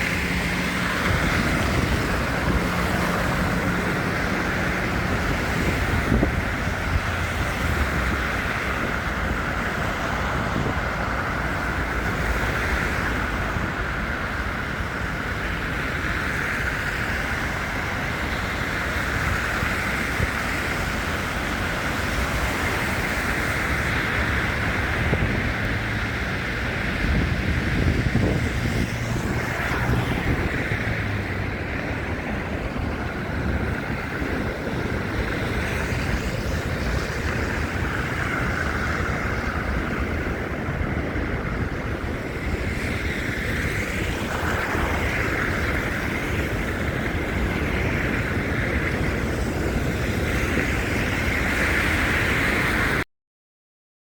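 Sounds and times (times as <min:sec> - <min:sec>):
dull street rumble: 0:00.0 - 0:53.0
wind buffeting microphone: 0:00.0 - 0:53.0.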